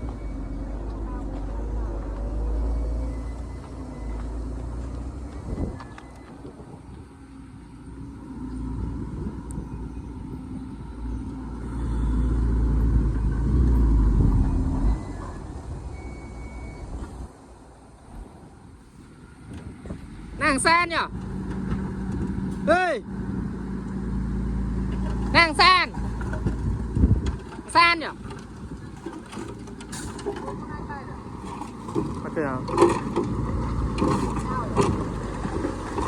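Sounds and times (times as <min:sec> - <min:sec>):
diesel engine deep rumble: 0:00.0 - 0:36.0.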